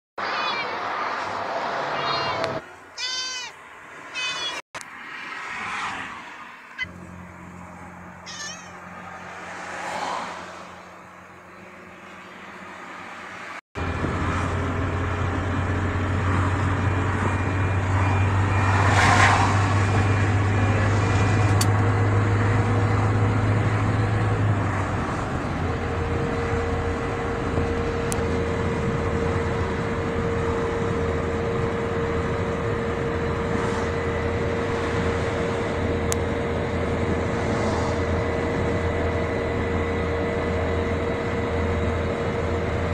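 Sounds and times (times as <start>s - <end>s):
car engine and road noise: 0.2s - 42.9s.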